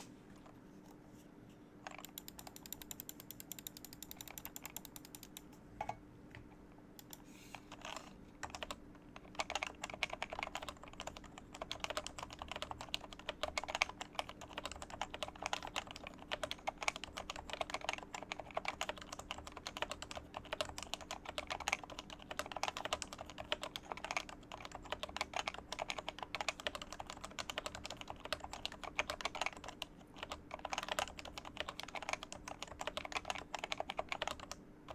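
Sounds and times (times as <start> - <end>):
typing on keyboard: 1.9 - 5.4, 7.0 - 34.9.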